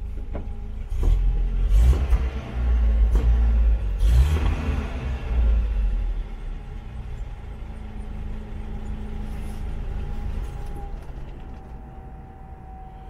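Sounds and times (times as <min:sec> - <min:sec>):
car engine running rough: 0:00.0 - 0:13.0.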